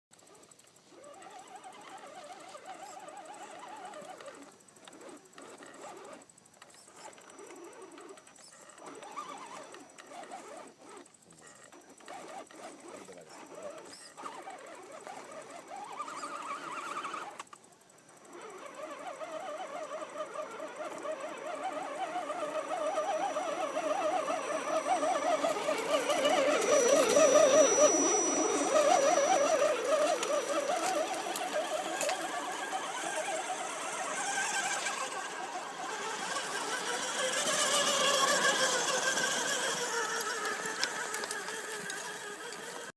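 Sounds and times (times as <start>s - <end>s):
small electric motor whining: 0.2s - 42.9s.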